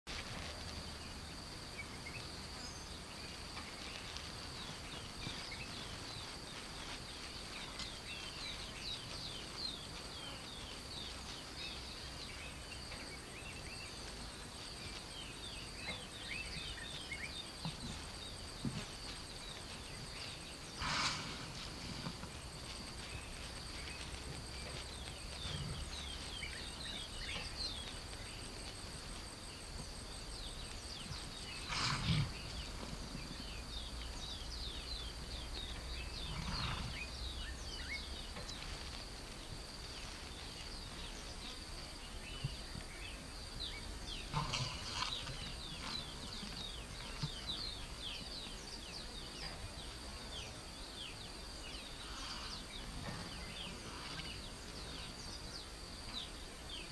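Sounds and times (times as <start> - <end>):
birds chirping: 0.1 - 56.9.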